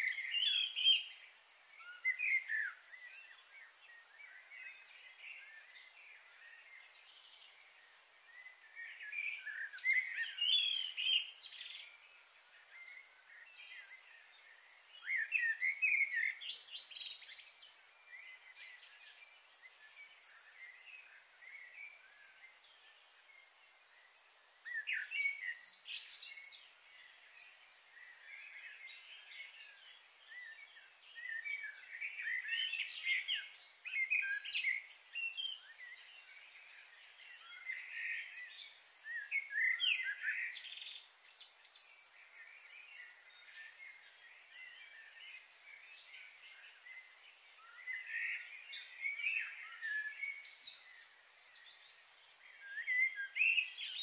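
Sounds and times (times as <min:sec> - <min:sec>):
birds singing and chirping: 0:00.0 - 0:54.0
faint background hiss: 0:00.0 - 0:54.0.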